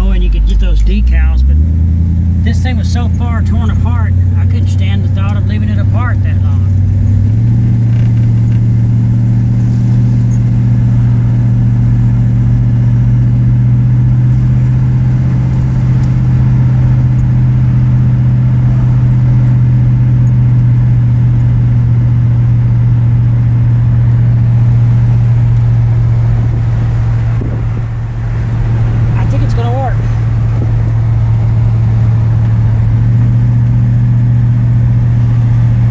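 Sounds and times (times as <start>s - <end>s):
car engine low drone: 0.0s - 35.9s.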